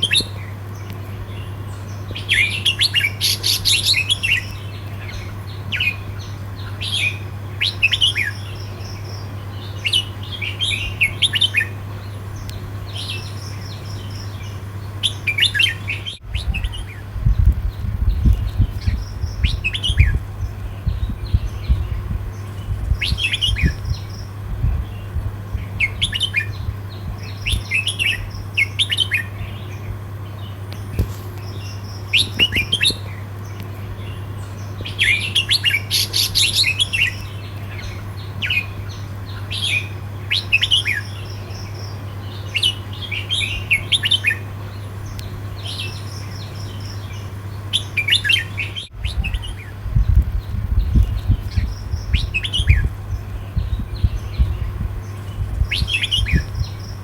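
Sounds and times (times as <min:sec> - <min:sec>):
bird chirpy song: 0:00.0 - 0:57.0
steady low hum: 0:00.0 - 0:57.0.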